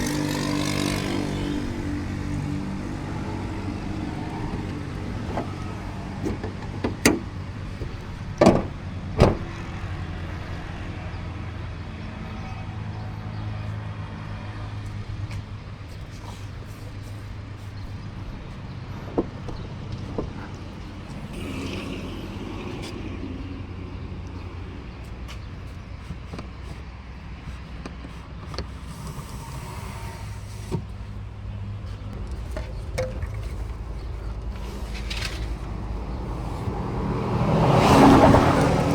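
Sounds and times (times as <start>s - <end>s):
car engine rumble: 0.0s - 38.9s.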